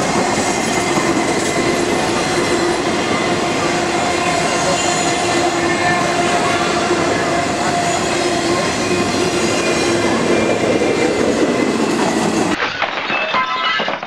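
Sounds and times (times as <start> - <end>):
train wheels rumbling: 0.0 - 12.6.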